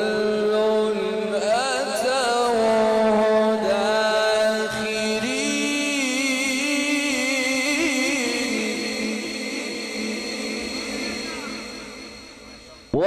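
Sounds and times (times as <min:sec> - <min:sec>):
man reciting in melodic chant: 0:00.0 - 0:13.0.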